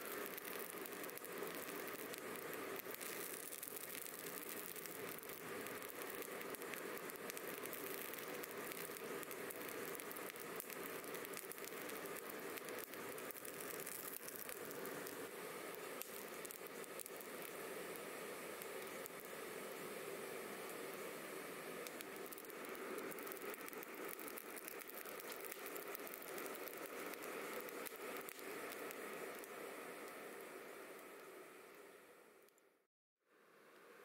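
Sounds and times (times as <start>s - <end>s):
charcoal fire crackling: 0.0s - 32.6s.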